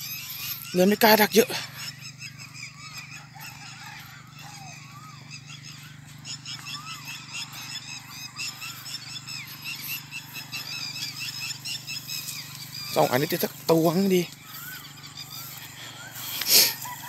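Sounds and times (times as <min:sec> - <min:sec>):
frogs and insects chirping: 0:00.0 - 0:17.0
rising and falling frog calls: 0:00.0 - 0:17.0
steady low hum: 0:00.0 - 0:17.0.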